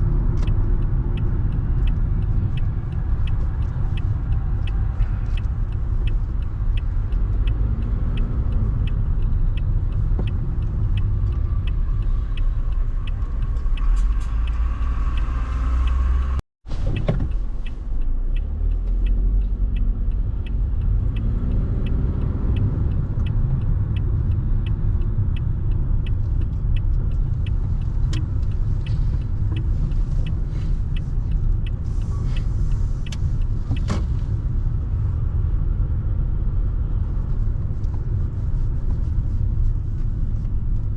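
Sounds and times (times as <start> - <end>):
light regular ticking: 0.0 - 16.3, 17.3 - 40.9
car road and engine rumble: 0.0 - 40.9.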